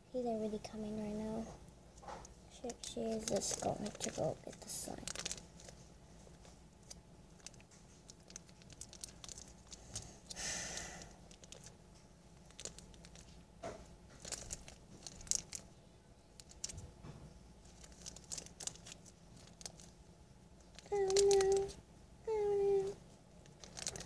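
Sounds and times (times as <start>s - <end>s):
faint rustling and crinkling: 0.2s - 24.0s.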